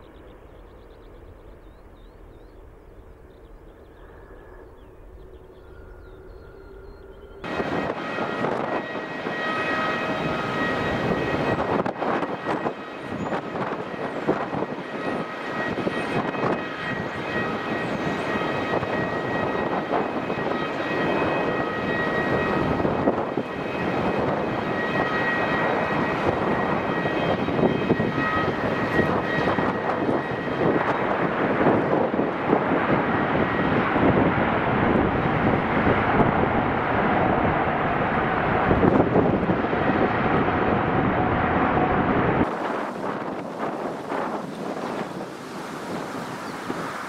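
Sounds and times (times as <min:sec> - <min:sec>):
high whining engine tones: 0:00.0 - 0:47.0
jet engines rushing: 0:00.0 - 0:47.0.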